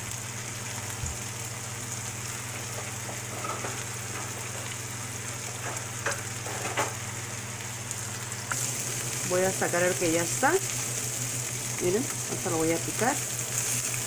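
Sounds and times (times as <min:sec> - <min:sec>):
chicken sizzling in a frying pan: 0:00.0 - 0:14.0.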